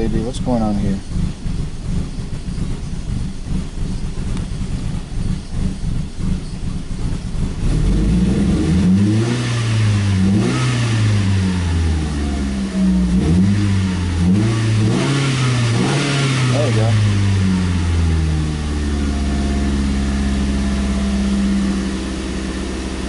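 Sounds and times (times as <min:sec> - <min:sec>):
car engine running rough: 0:00.0 - 0:23.0.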